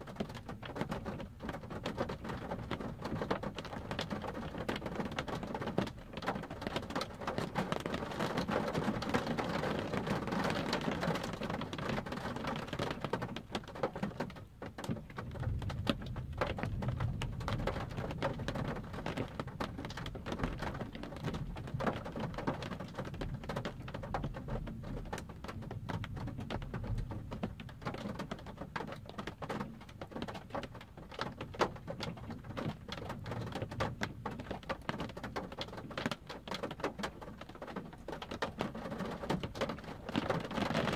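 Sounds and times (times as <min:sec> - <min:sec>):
rain on car windshield: 0:00.0 - 0:40.9.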